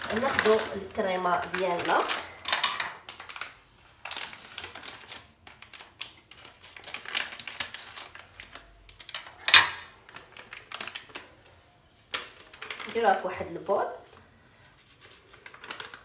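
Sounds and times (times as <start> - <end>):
foil sachet crinkling: 0.0 - 2.4, 3.0 - 16.0
loud foil crackle: 0.0 - 2.4, 3.0 - 16.0.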